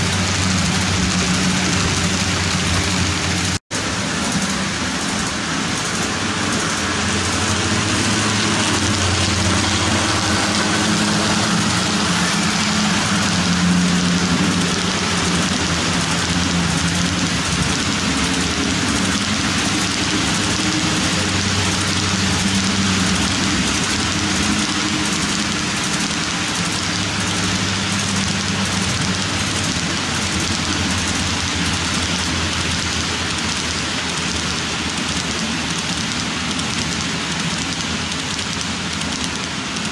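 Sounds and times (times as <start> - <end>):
model train wheels rushing on track: 0.0 - 39.9.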